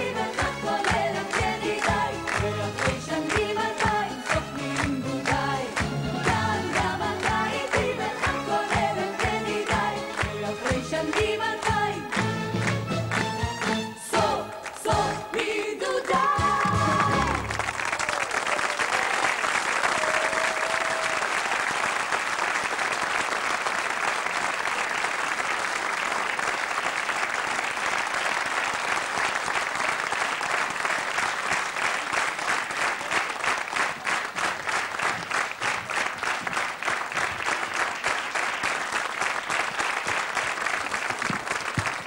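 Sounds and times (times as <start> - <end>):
audience applauding: 0.0 - 13.9, 14.6 - 42.0
rhythmic unison clapping: 0.0 - 42.0.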